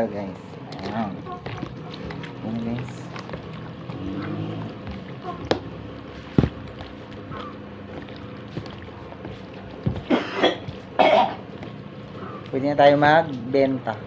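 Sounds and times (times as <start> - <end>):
steady low hum: 0.0 - 14.0
hands squishing meat in marinade: 0.1 - 14.0.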